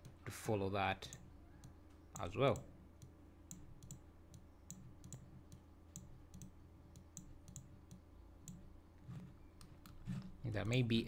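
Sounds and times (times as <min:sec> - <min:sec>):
computer mouse clicks: 0:01.1 - 0:10.8.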